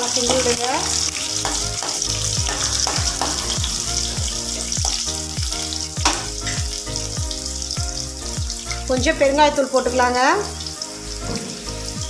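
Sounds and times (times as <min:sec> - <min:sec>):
background music with steady beat: 0:00.0 - 0:12.0
food sizzling in hot oil: 0:00.0 - 0:12.0.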